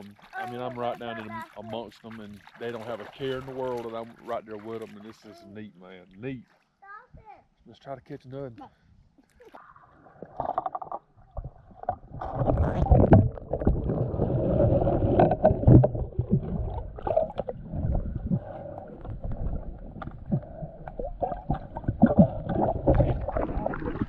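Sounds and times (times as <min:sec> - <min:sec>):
underwater water sloshing: 0:00.0 - 0:06.8, 0:09.2 - 0:24.0.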